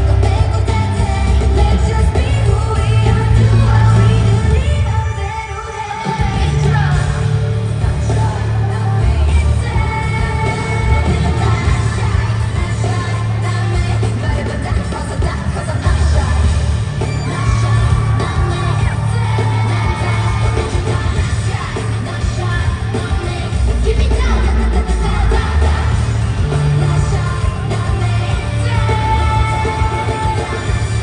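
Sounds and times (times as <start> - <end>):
fans yelling along: 0.0 - 31.0
pop song over sound system: 0.0 - 31.0.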